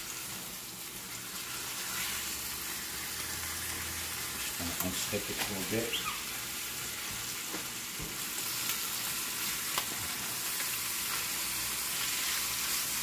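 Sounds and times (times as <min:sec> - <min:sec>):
chicken sizzling in a skillet: 0:00.0 - 0:13.0.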